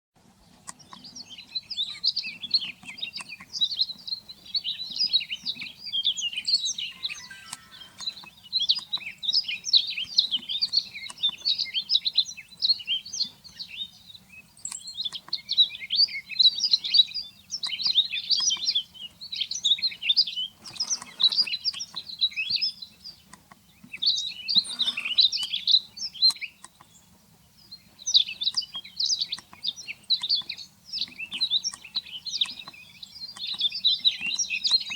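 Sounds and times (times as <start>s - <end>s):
songbirds chirping: 0.2s - 34.9s.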